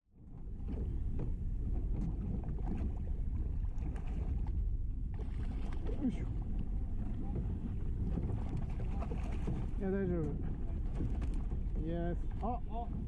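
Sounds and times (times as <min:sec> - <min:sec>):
boat engine rumble: 0:00.1 - 0:13.0
wind on microphone: 0:00.2 - 0:13.0.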